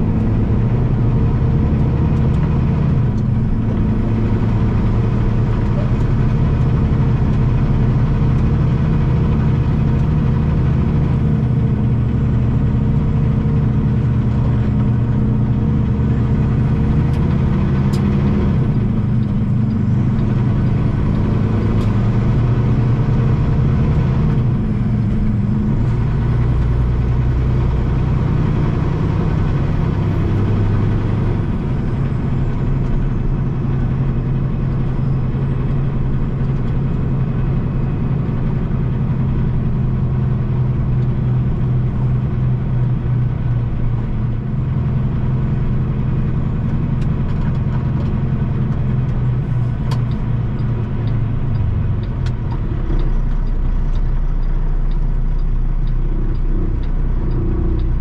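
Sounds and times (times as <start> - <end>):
road rumble: 0.0 - 58.0
truck engine running: 0.0 - 58.0.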